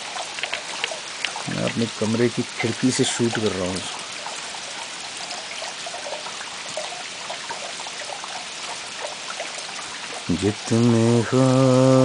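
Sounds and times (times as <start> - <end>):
small drips: 0.0 - 12.0
steady rain: 0.0 - 12.0.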